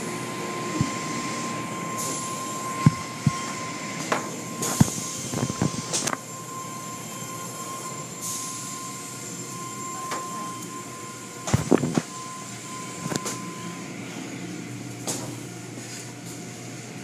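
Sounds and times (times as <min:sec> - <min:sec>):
car wash machinery whirring: 0:00.0 - 0:17.0.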